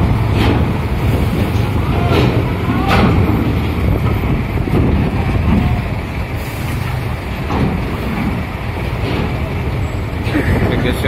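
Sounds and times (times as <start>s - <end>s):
truck diesel engines rumbling: 0.0s - 11.0s.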